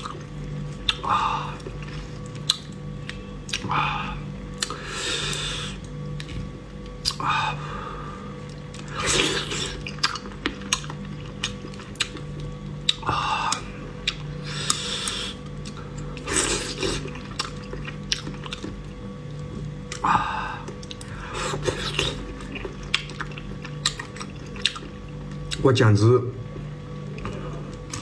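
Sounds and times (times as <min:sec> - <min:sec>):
close chewing and biting: 0:00.0 - 0:03.8, 0:04.5 - 0:07.3, 0:08.4 - 0:25.6.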